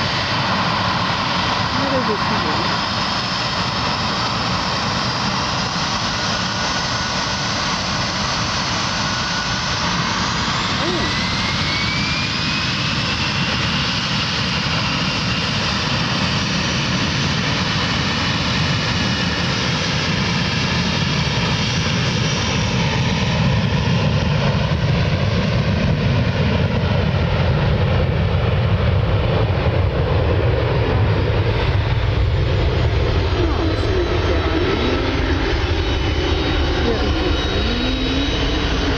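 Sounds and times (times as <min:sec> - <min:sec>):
jet engines at takeoff: 0:00.0 - 0:38.9.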